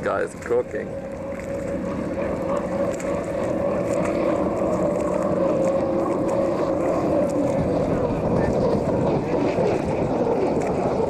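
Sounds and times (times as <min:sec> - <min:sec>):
racing boat engine high drone: 0:00.0 - 0:11.0.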